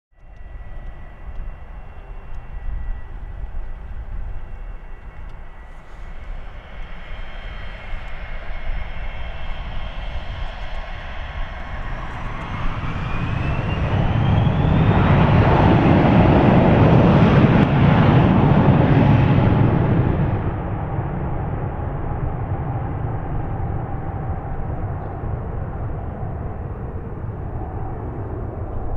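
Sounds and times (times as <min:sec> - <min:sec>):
jet engines whining and roaring: 0:00.2 - 0:28.9.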